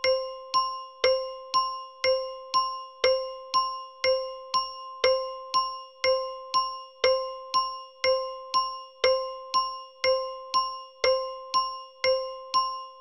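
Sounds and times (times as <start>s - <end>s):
bell-toned tick-tock timer: 0.0s - 13.0s.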